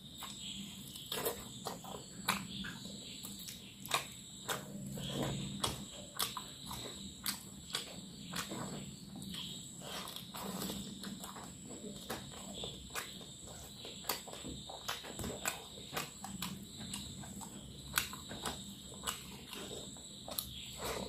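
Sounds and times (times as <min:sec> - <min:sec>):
fingers mixing food on a plate: 0:00.0 - 0:21.0
man chewing and lip-smacking: 0:00.0 - 0:21.0.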